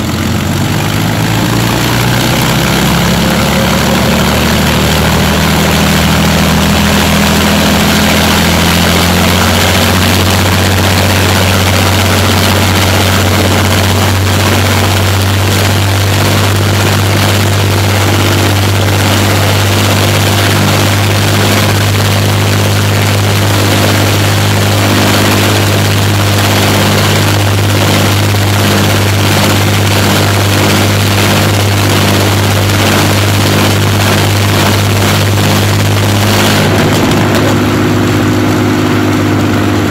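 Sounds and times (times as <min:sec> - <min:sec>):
aero engines droning: 0:00.0 - 0:39.9.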